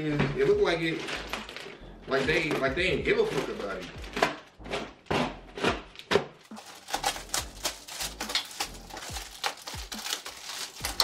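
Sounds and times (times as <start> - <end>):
plastic bag ripping and crinkling: 0.4 - 11.0.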